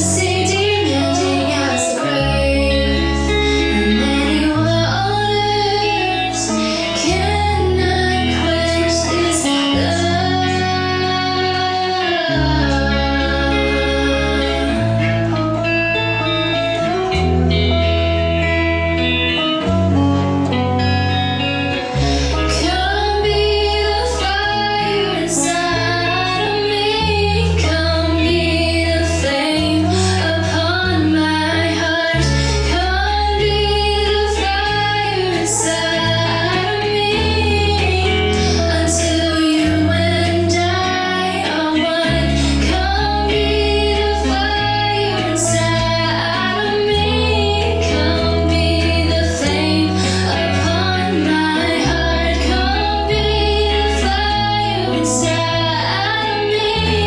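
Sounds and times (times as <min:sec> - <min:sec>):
woman singing into microphone: 0:00.0 - 0:17.8, 0:21.4 - 0:57.0
electric bass: 0:00.0 - 0:57.0
electric guitar: 0:00.0 - 0:57.0.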